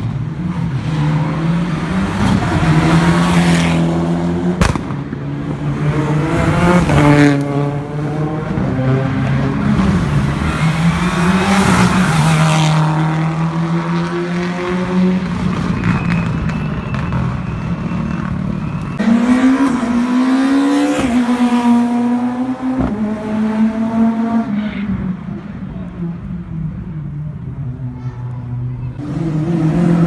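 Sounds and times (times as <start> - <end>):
rally car engines running hard: 0.0 - 30.0.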